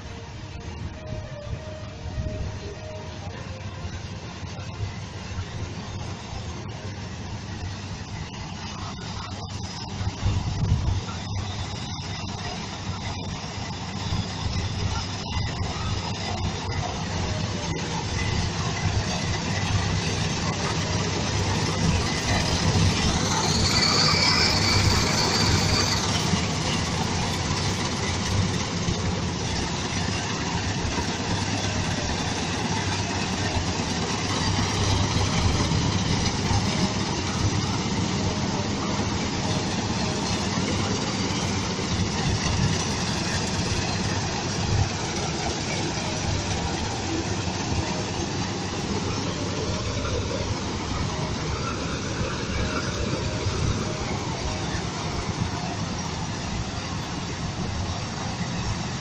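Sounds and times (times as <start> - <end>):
combine harvester running: 0.0 - 59.0
high whine: 0.0 - 59.0.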